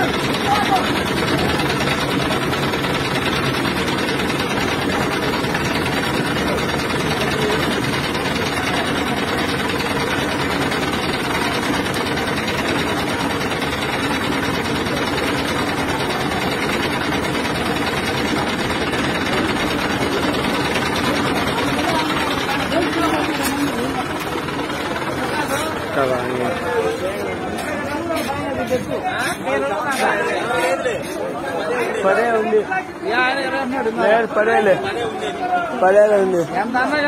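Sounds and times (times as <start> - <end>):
heavy vehicle engine running: 0.0 - 31.9.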